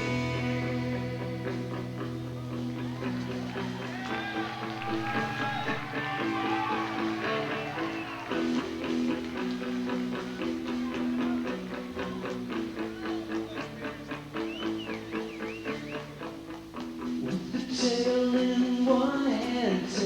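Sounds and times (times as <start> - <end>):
bass guitar: 0.0 - 20.0
lead electric guitar: 0.0 - 20.0.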